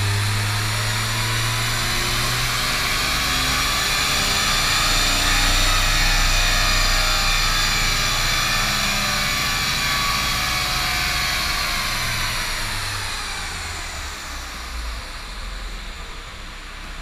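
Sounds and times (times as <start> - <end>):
low diesel engine drone: 0.0 - 17.0.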